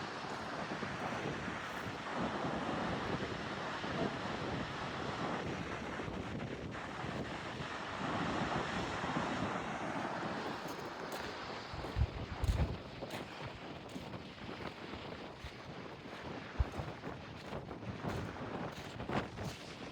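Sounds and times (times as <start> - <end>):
sea waves washing on shore: 0.0 - 19.9
wind on microphone: 0.0 - 19.9.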